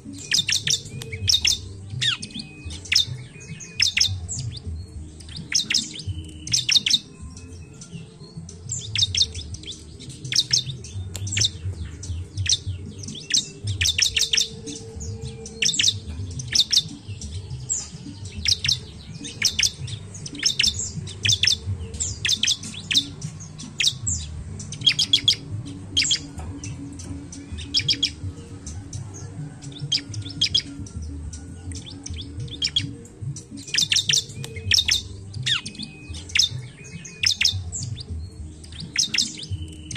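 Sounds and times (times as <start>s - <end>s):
bird chattering calls: 0.0s - 7.2s, 8.7s - 17.0s, 17.6s - 38.0s.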